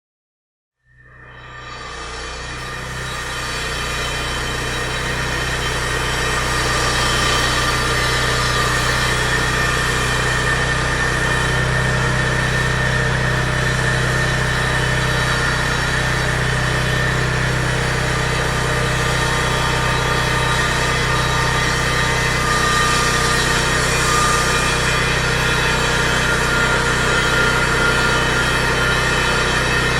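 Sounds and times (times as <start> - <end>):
construction machine engine drone: 0.8 - 29.9
thin steady whine: 1.0 - 29.9.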